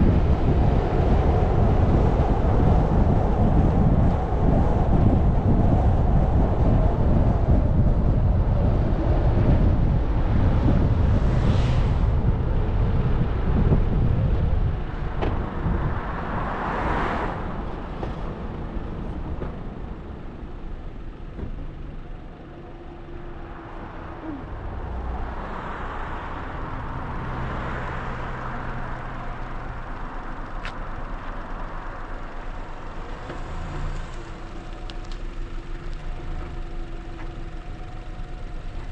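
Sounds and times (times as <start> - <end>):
car engine hum: 0.0 - 38.9
road and wind rumble: 0.0 - 38.9.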